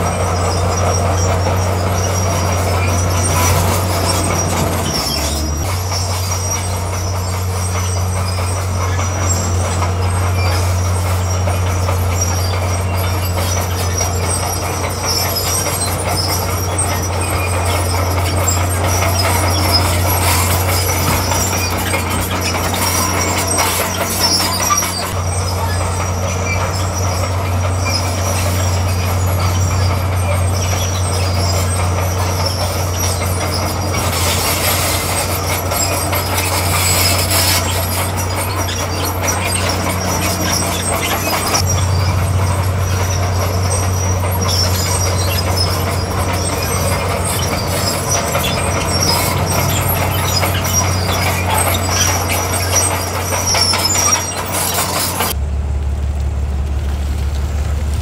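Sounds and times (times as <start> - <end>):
diesel engine running under load: 0.0 - 58.0
steel tracks squealing and clattering: 0.0 - 58.0.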